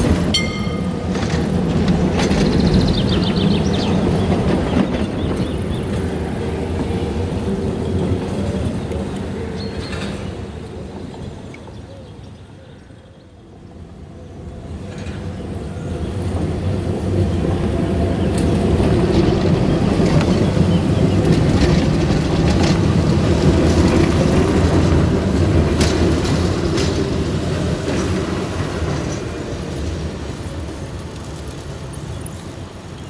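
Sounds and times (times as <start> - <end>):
wheels clicking on rails: 0.0 - 11.8, 16.2 - 33.0
tram rumbling past: 0.0 - 33.0.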